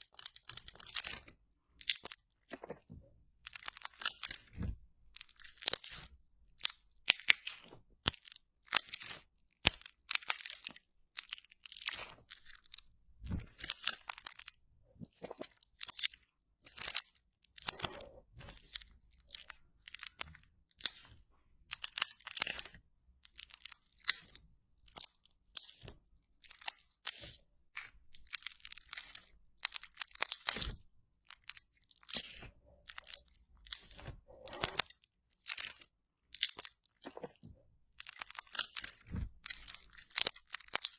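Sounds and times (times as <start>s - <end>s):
slime crunching and crackling: 0.0s - 40.9s.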